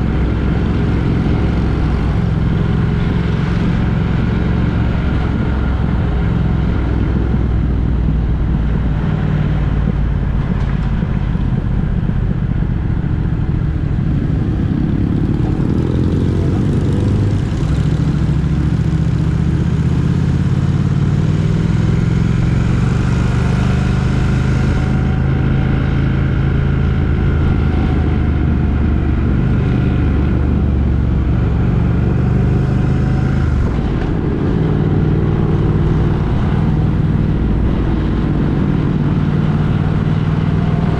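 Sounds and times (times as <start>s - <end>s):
road noise: 0.0s - 40.9s
vehicle engine running: 0.0s - 40.9s.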